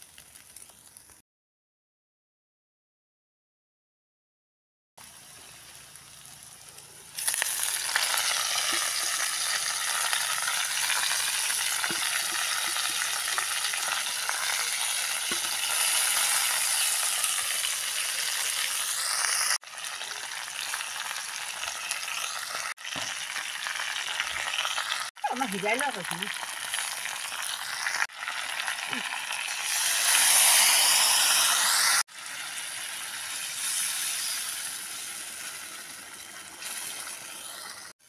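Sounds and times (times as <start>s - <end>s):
vegetables sizzling in hot oil: 5.0s - 38.0s.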